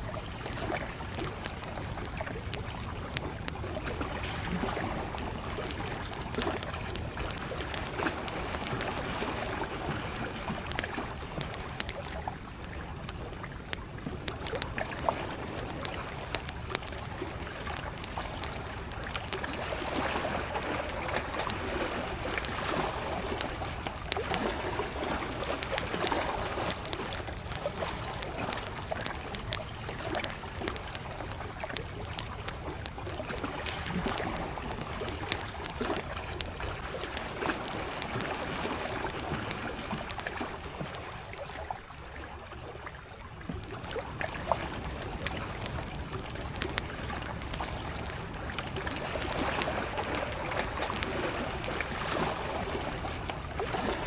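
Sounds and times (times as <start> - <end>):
campfire crackling and popping: 0.0 - 54.0
lake waves lapping: 0.1 - 54.0.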